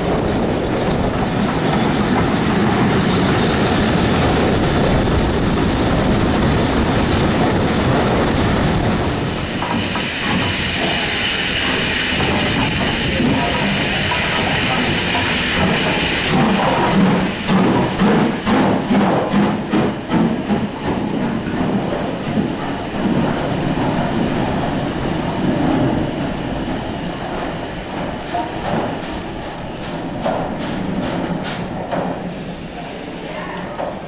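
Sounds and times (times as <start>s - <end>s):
steam locomotive chuffing: 0.0s - 33.2s
steam hissing: 0.0s - 33.3s.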